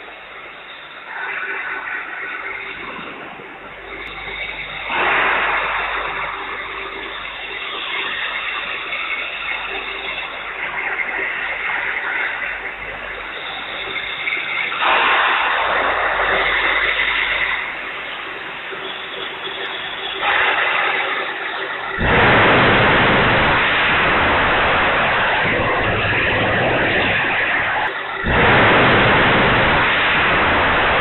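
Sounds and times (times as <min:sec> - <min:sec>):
factory workshop rushing noise: 0:00.0 - 0:31.0.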